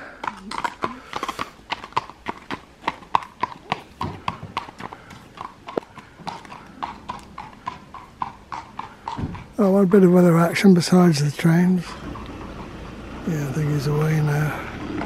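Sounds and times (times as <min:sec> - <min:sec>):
horse hooves on tarmac: 0:00.0 - 0:15.0.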